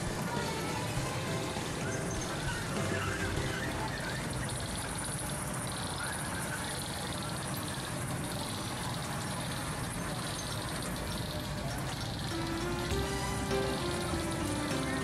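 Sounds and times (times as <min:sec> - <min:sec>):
ride-on train running on track: 0:00.0 - 0:15.0.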